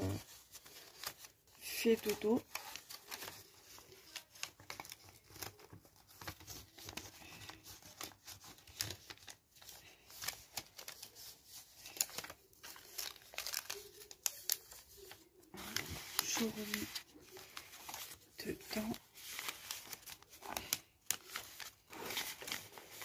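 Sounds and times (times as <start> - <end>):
paper rustling and crinkling: 0.0 - 23.0.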